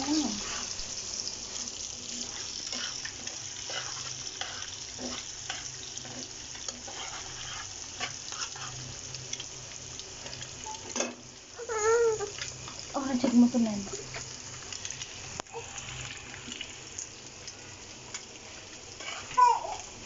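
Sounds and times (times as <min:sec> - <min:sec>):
food sizzling in a hot pan: 0:00.0 - 0:20.0.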